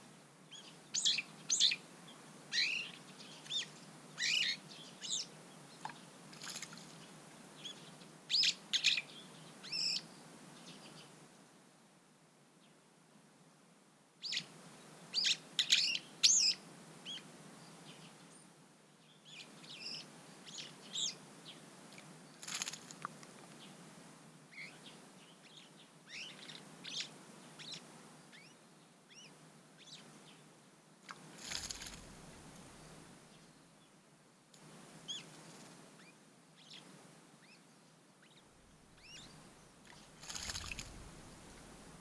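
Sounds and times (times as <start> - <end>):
songbirds chirping: 0.0 - 11.6, 14.2 - 42.0.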